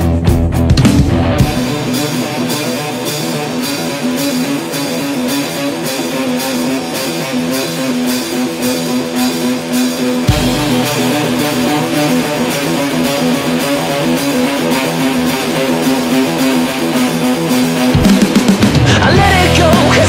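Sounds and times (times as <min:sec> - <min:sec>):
picked guitar pattern: 0:00.0 - 0:20.0.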